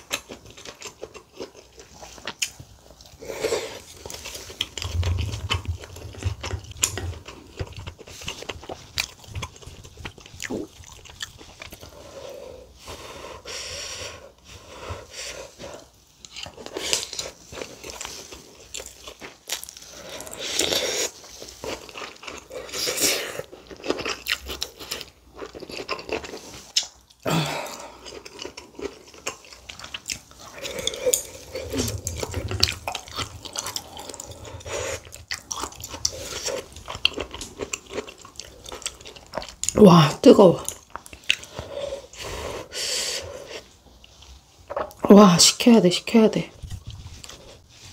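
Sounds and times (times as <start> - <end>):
chewing with wet mouth sounds: 0.0 - 47.9.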